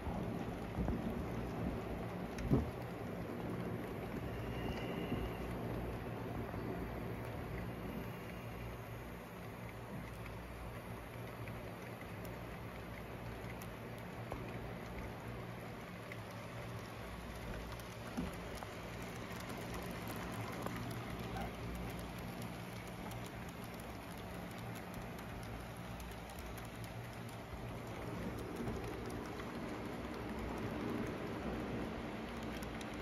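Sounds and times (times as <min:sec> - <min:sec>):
model train wheels clicking: 0:00.0 - 0:33.0
steady low hum: 0:00.0 - 0:33.0.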